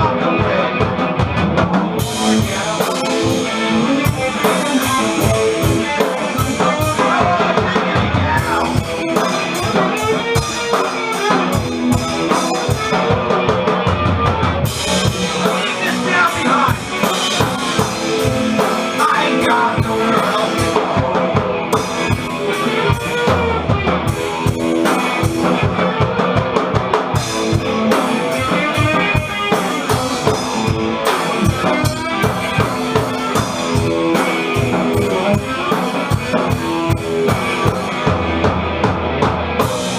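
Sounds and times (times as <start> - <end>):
band music: 0.0 - 39.9
drum kit beat: 0.0 - 39.9
guitar bending notes: 0.0 - 39.9.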